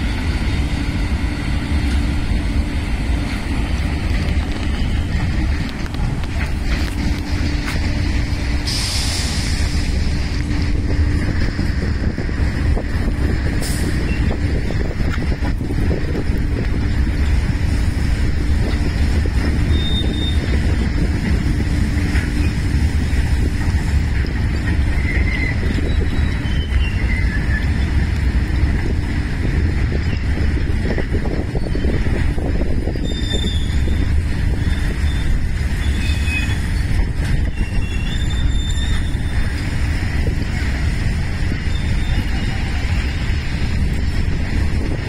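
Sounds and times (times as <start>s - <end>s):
train wheels rumbling and clattering: 0.0s - 45.0s.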